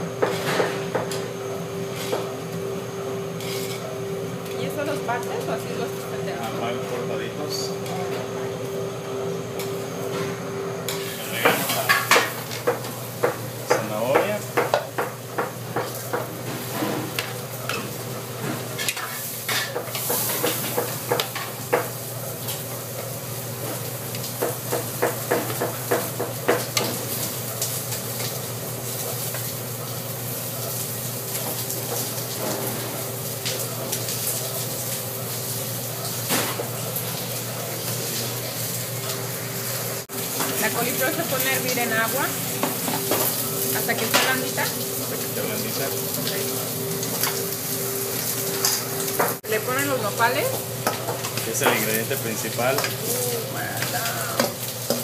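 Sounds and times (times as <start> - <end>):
vegetables sizzling in a pot: 0.0 - 55.0.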